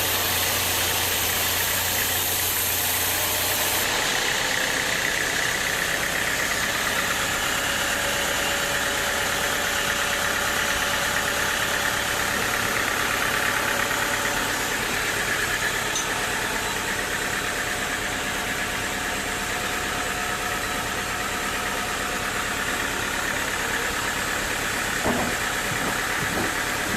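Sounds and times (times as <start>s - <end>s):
sawmill machinery drone and hiss: 0.0s - 26.9s.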